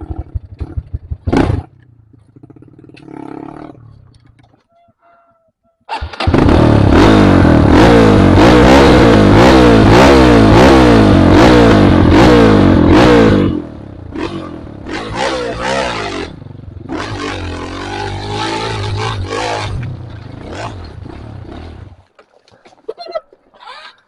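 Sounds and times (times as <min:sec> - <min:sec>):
motorcycle engine revving: 0:00.0 - 0:04.2, 0:05.9 - 0:22.0.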